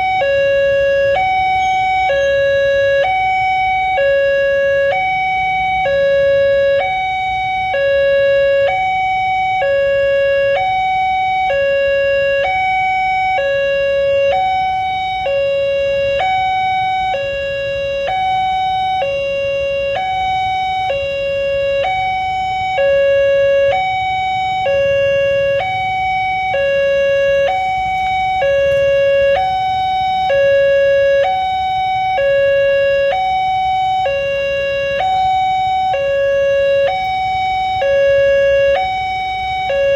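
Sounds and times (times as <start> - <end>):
faint traffic rumble: 0.0 - 39.9
level crossing two-tone alarm: 0.0 - 39.9.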